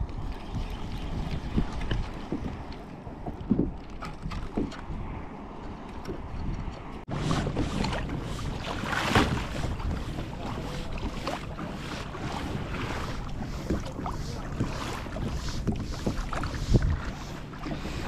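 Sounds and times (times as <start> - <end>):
water splashing against a kayak: 0.0 - 18.0
wind buffeting microphone: 0.0 - 18.0.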